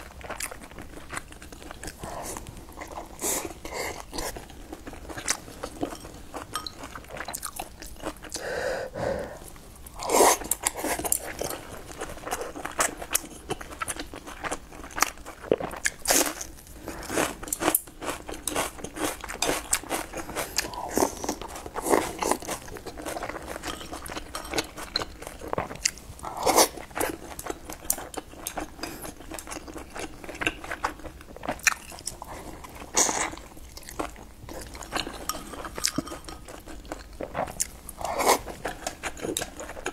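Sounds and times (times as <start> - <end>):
chewing and biting soft buns: 0.0 - 8.4, 9.5 - 39.9.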